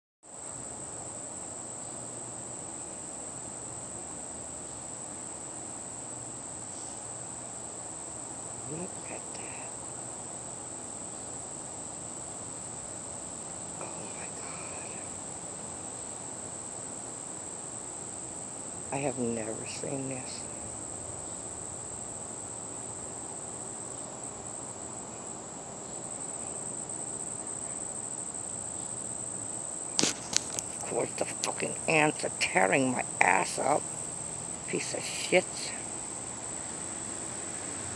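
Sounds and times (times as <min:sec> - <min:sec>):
faint background hiss: 0:00.3 - 0:37.9
insects trilling: 0:00.3 - 0:37.9.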